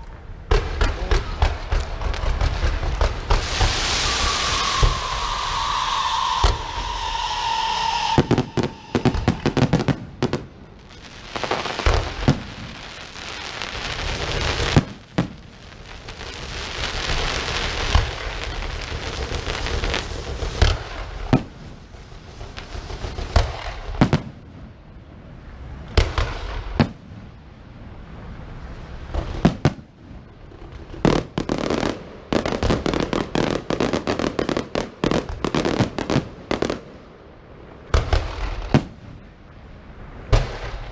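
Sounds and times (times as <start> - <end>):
fireworks banging: 0.0 - 24.8, 25.9 - 27.3, 29.0 - 37.0, 37.8 - 39.3
fireworks hissing and crackling: 0.0 - 40.9.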